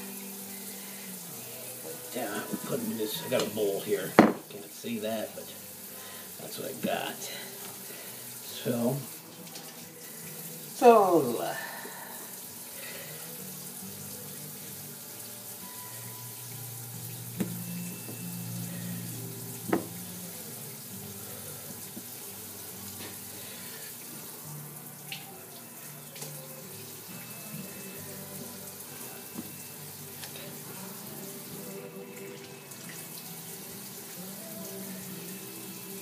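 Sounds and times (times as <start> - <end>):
faucet running into sink: 0.0 - 36.0.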